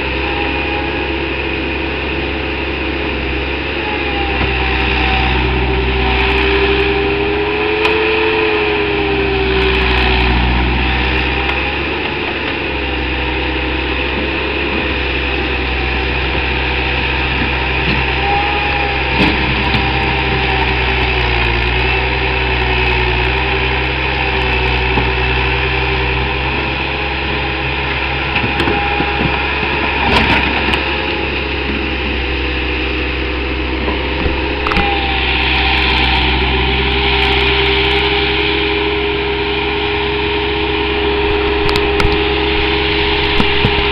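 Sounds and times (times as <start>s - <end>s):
diesel engine running: 0.0s - 43.9s
engine whine bending in pitch: 0.0s - 43.9s.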